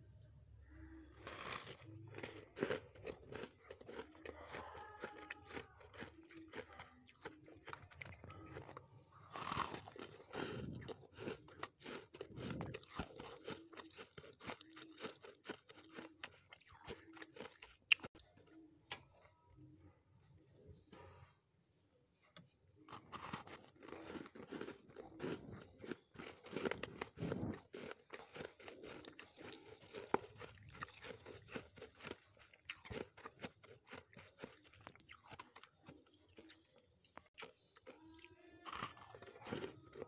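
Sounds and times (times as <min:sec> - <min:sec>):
frost being chewed: 0:00.2 - 0:19.7, 0:22.2 - 0:40.0.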